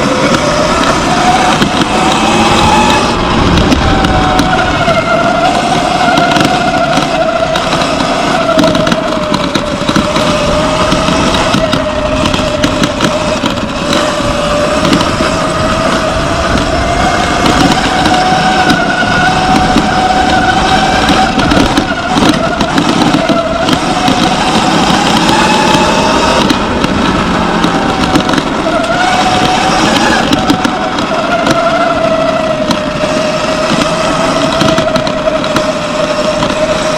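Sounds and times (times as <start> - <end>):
electric motor whine: 0.0 - 36.9
wind and ground noise: 0.0 - 36.9.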